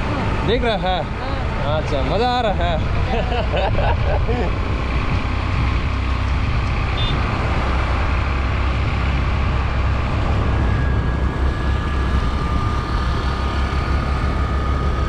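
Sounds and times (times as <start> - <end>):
motorbike engine: 0.0 - 15.0
road noise: 0.0 - 15.0
wind rushing over microphone: 0.0 - 15.0.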